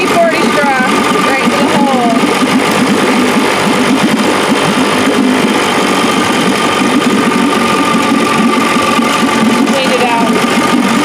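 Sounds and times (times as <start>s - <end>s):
outboard motor running: 0.0s - 11.0s
thin steady whine: 0.0s - 11.0s.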